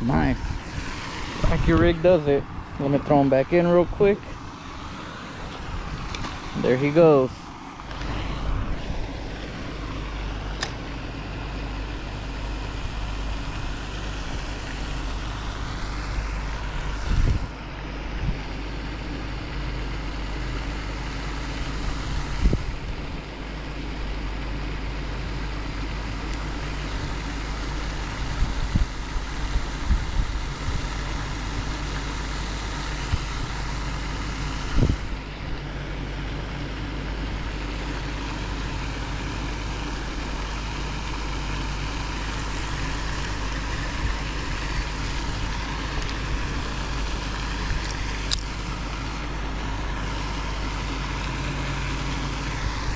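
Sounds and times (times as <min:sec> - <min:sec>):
rushing noise with low rumble: 0:00.0 - 0:19.7, 0:20.3 - 0:23.8, 0:25.3 - 0:52.9.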